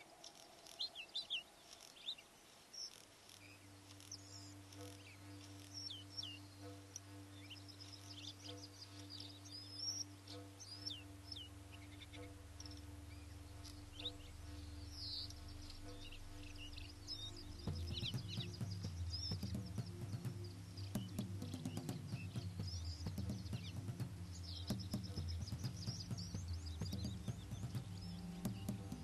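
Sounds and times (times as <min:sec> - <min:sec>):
small birds chirping: 0:00.0 - 0:29.0
low drone music with soft pulse: 0:02.8 - 0:29.0.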